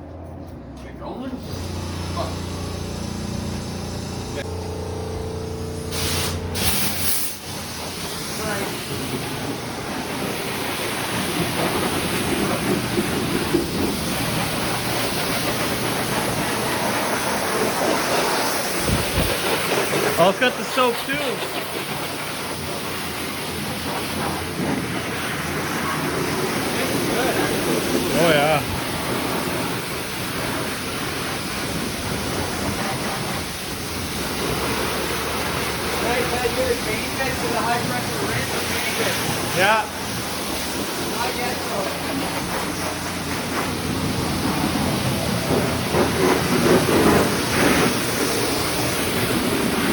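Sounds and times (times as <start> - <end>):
high-pressure water spray: 1.4 - 49.9.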